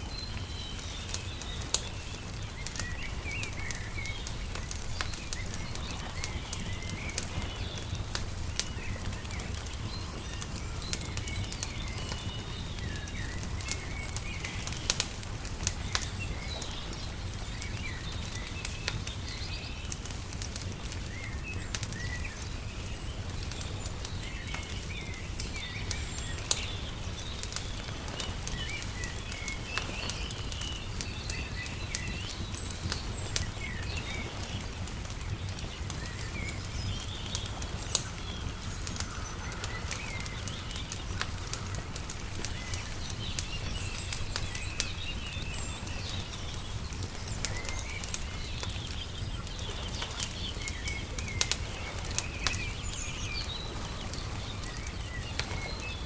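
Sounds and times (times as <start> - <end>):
small birds chirping: 0.0 - 56.0
wood fire crackling and popping: 0.0 - 56.0.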